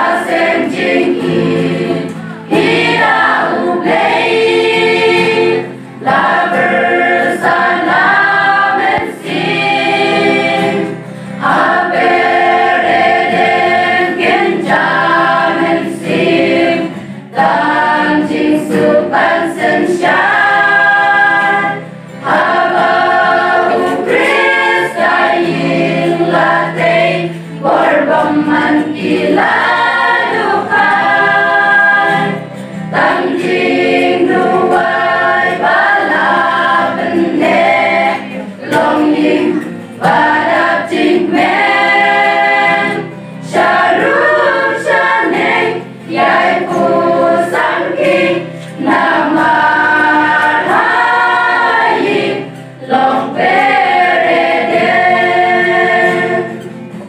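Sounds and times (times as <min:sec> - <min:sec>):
women singing a hymn: 0:00.0 - 0:57.0.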